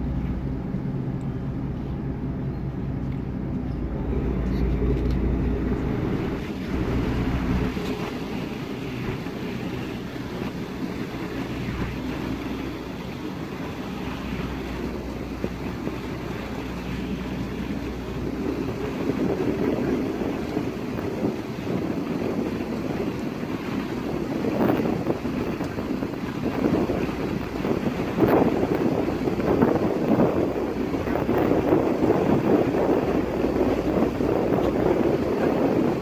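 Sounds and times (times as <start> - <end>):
boat motor running: 0.0 - 36.0
water washing past hull: 0.0 - 36.0
wind buffeting microphone: 1.6 - 36.0.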